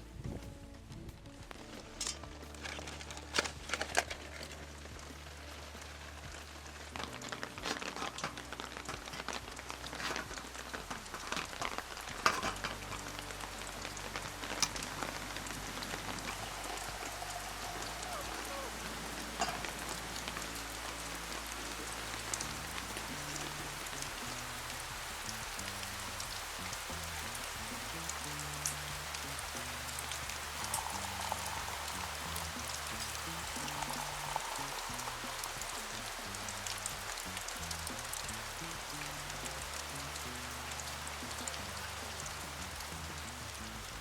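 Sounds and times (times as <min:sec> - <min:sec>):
heavy rain falling: 0:00.0 - 0:44.0.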